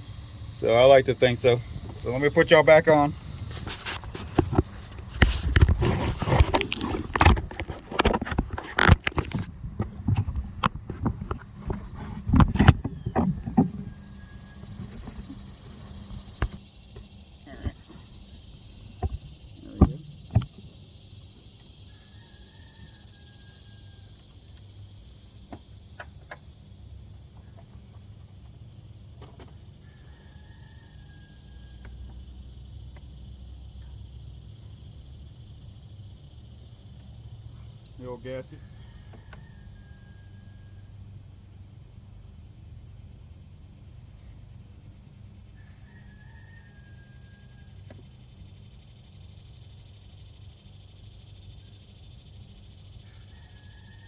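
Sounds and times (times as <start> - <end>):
steady low hum: 0.0 - 46.1, 47.1 - 53.7.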